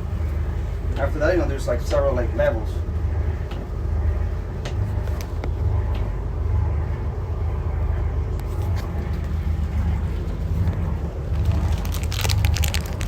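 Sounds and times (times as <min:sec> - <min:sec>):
motor rumbling: 0:00.0 - 0:13.0.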